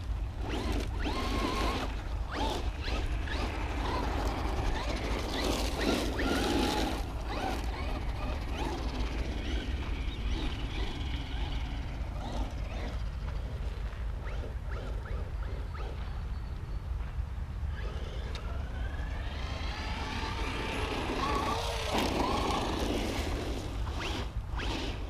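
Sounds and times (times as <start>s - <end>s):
tyres scrabbling on dirt: 0.0s - 16.0s, 17.8s - 25.0s
electric motor whining: 0.4s - 13.6s, 17.7s - 25.0s.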